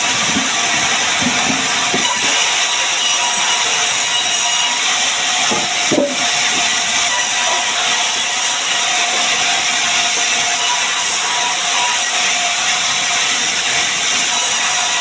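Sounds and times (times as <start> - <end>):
power saw cutting wood: 0.0 - 15.0.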